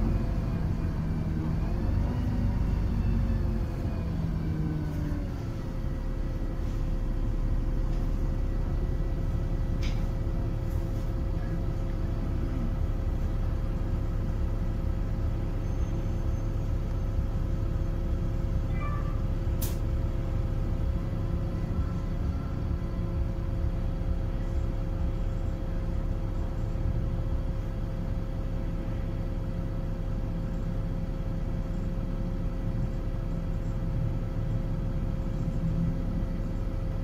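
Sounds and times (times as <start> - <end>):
bus engine rumbling: 0.0 - 37.0.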